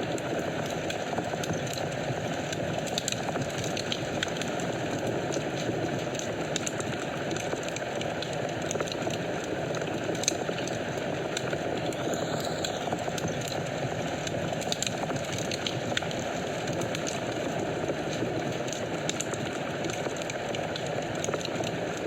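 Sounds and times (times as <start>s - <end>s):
fire crackling and popping: 0.0s - 22.0s
flames rushing: 0.1s - 22.0s.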